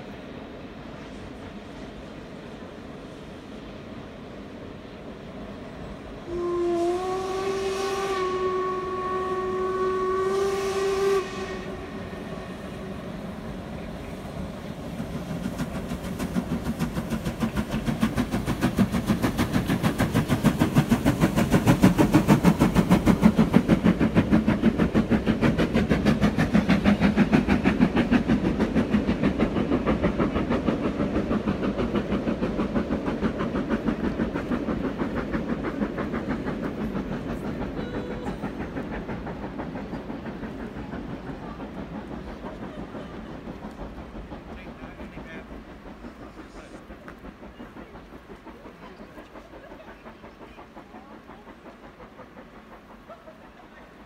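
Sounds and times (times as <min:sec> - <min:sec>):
train clattering over tracks: 0:00.0 - 0:54.0.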